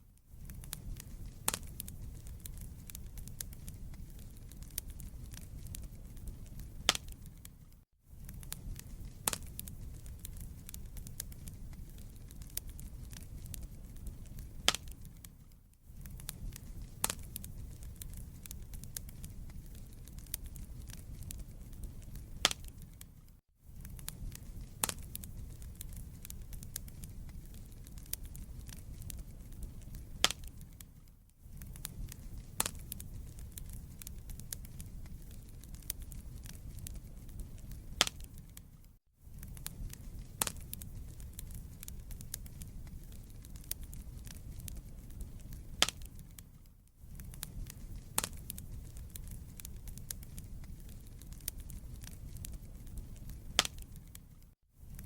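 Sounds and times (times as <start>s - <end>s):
fire crackling and popping: 0.0s - 55.0s
wood fire flames rumbling: 0.3s - 55.0s.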